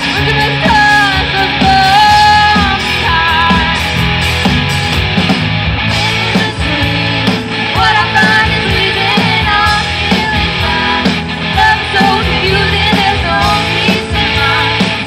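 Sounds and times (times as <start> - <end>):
woman singing: 0.0 - 3.9, 5.9 - 15.0
bass guitar: 0.0 - 15.0
drums: 0.0 - 15.0
electric guitar: 0.0 - 15.0
keyboard: 0.0 - 15.0.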